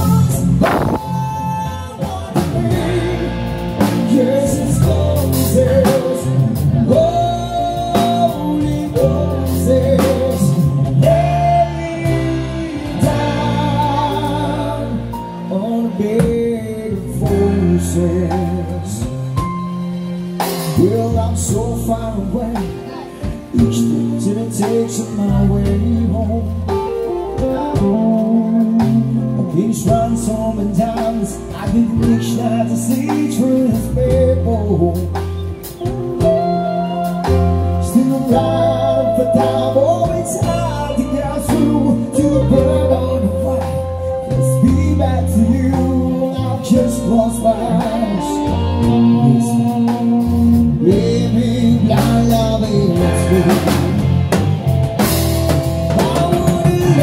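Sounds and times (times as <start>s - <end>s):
man singing into microphone: 0.0s - 54.1s, 55.9s - 57.0s
drum kit: 0.0s - 57.0s
electric guitar: 0.0s - 57.0s
keyboard: 0.0s - 57.0s.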